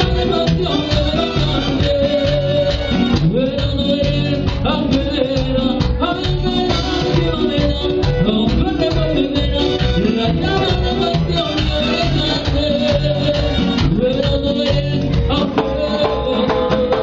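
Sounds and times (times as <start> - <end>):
latin dance music on keyboard: 0.0 - 17.0.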